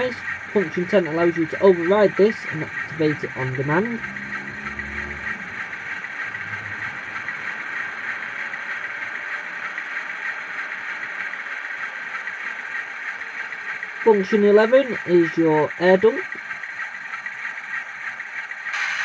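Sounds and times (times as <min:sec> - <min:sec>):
thin hissy diesel drone from speaker: 0:00.0 - 0:16.7
low hum: 0:00.0 - 0:19.0.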